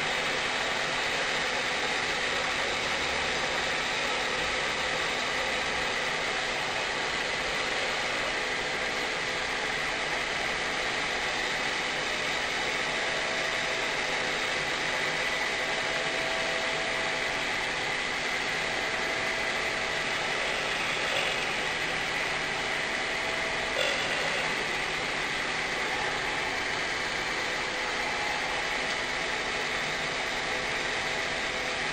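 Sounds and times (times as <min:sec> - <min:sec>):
router spindle cutting with whine: 0:00.0 - 0:31.9.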